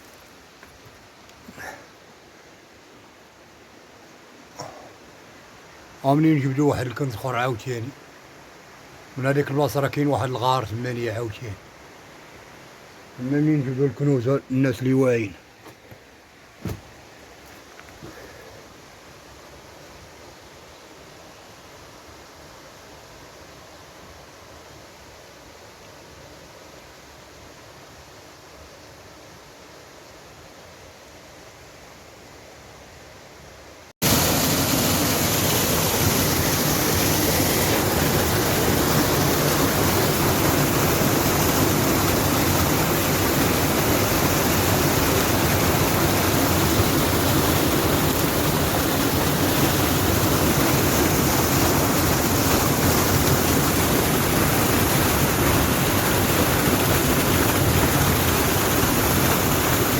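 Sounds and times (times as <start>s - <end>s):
faint steady hiss: 0.0s - 59.9s.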